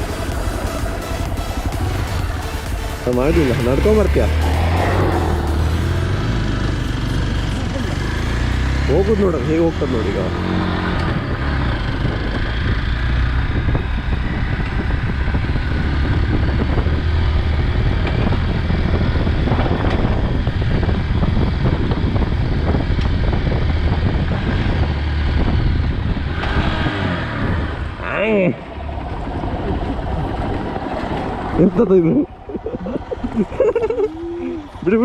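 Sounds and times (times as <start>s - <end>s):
motorcycle engine running: 0.0s - 35.0s
wind rushing over microphone: 0.0s - 35.0s.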